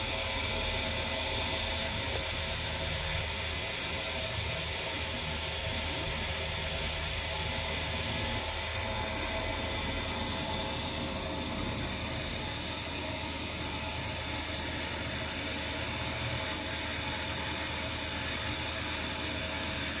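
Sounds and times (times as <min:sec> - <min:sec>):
milling machine spindle whine: 0:00.0 - 0:20.0.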